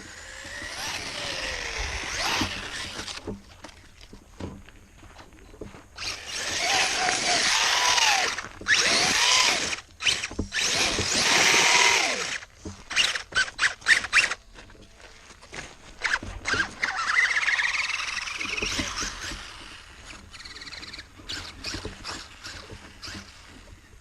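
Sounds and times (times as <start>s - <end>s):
electric motor whining: 0.0s - 3.4s, 6.0s - 24.0s
wheels spinning through mud: 0.0s - 4.4s, 6.0s - 24.0s.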